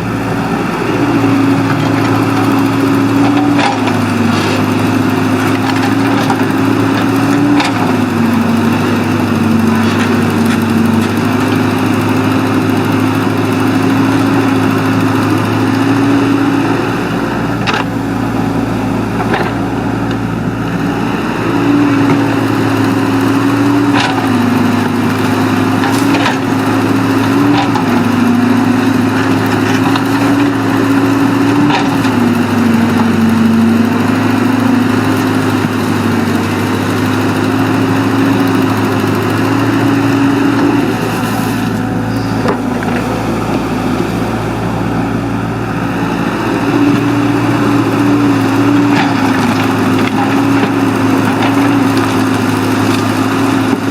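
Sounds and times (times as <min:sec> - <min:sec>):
excavator diesel engine: 0:00.0 - 0:53.9.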